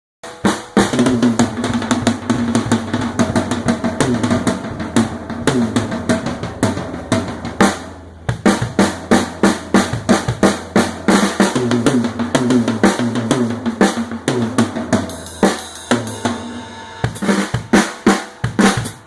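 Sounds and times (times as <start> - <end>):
drum kit playing: 0.2 - 19.0.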